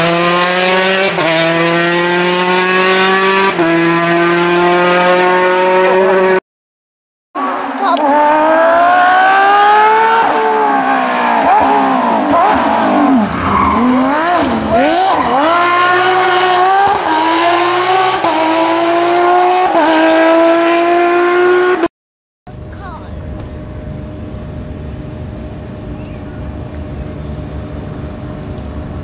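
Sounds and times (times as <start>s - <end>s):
rally car engine at full throttle: 0.0s - 6.4s, 7.4s - 21.9s, 22.6s - 29.0s.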